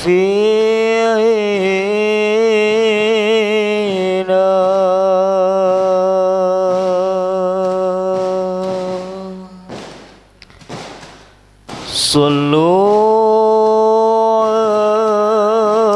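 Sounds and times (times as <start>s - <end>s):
man chanting a long note: 0.0s - 10.0s, 11.9s - 15.9s.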